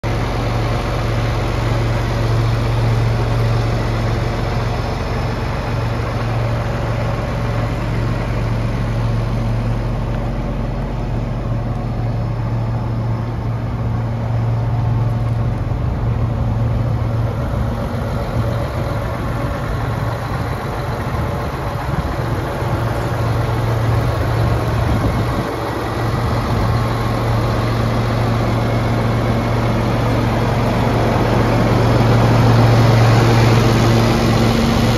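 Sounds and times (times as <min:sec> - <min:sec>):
diesel tractor engine idling: 0:00.0 - 0:34.9.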